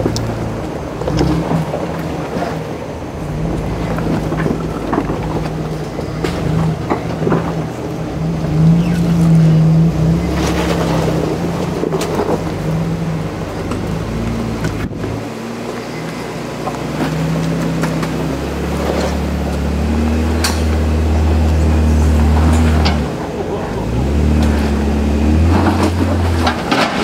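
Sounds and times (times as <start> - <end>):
car engine running under load: 0.0 - 27.0.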